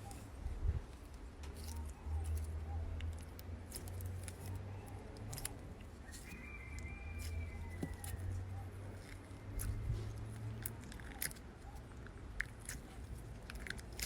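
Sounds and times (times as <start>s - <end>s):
slime clicking and crackling: 1.4s - 14.0s.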